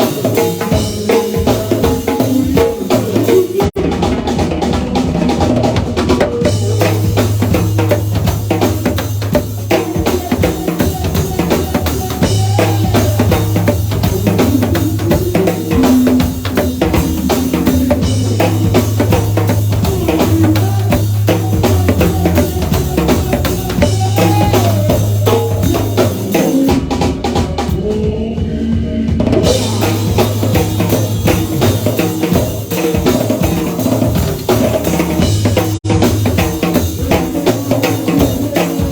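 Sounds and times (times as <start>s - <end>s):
drum kit beat: 0.0s - 38.9s
live band playing: 0.0s - 38.9s
bass line: 3.6s - 38.9s.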